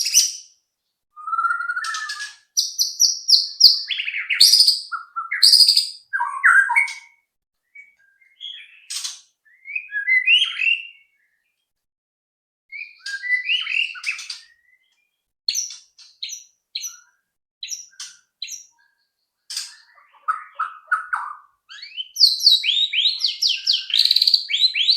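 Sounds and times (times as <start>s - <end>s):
songbird whistling and warbling: 1.1s - 11.5s, 12.7s - 24.9s.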